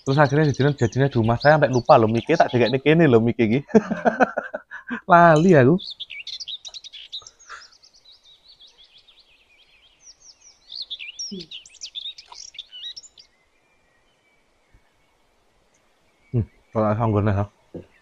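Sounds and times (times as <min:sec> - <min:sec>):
songbird chirping and trilling: 0:00.0 - 0:18.0.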